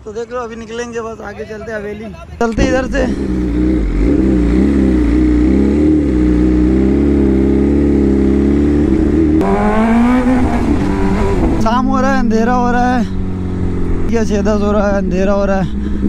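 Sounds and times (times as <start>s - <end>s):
motorcycle engine revving: 2.6s - 16.0s.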